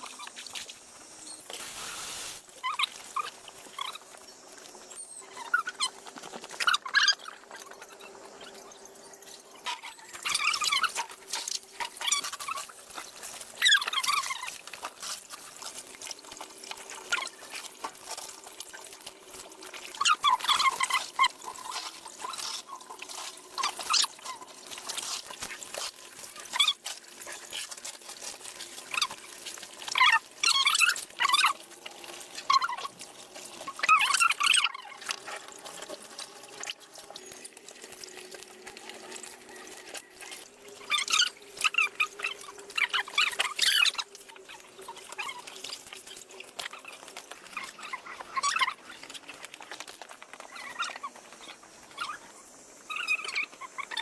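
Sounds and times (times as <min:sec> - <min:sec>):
water splashing and pouring: 0:00.0 - 0:07.6, 0:09.8 - 0:51.6.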